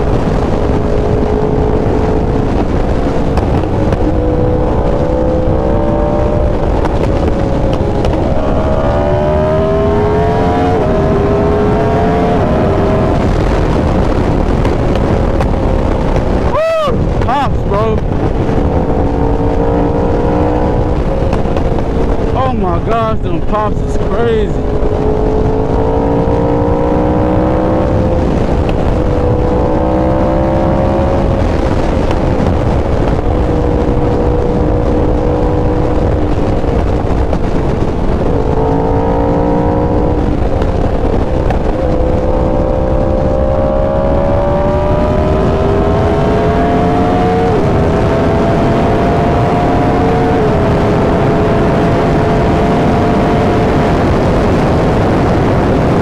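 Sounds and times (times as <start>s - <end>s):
motorcycle engine cruising: 0.0s - 56.0s
wind noise: 0.0s - 56.0s.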